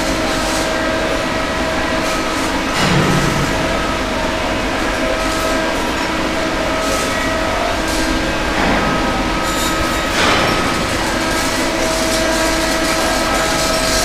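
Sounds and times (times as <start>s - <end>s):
engine-room machinery humming: 0.0s - 14.0s.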